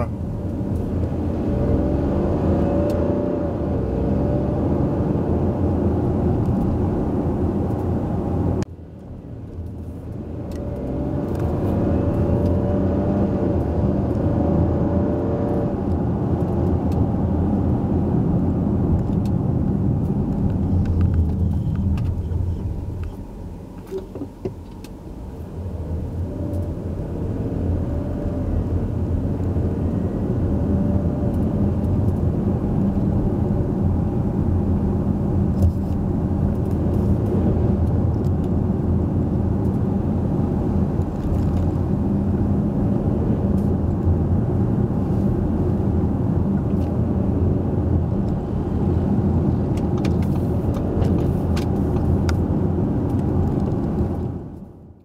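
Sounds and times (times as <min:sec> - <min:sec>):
car engine accelerating: 0:00.0 - 0:08.6, 0:09.5 - 0:54.7.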